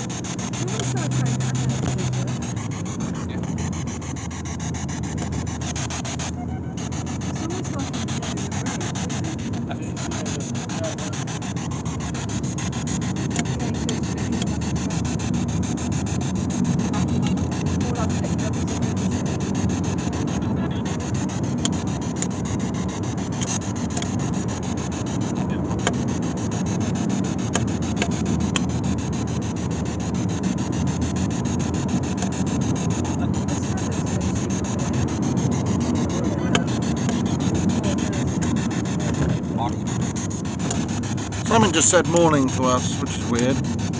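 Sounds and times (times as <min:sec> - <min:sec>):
low rumbling inside car: 0:00.0 - 0:43.9
microphone handling noise: 0:00.0 - 0:43.9.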